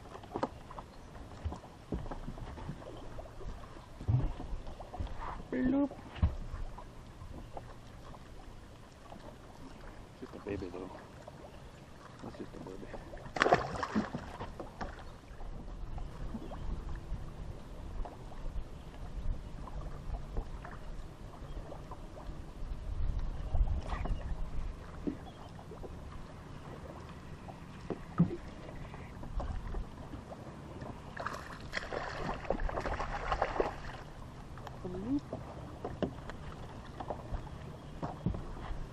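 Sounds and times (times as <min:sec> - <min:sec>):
wind rumbling on microphone: 0:00.0 - 0:07.7, 0:12.3 - 0:38.9
water lapping against boat hull: 0:00.0 - 0:38.9.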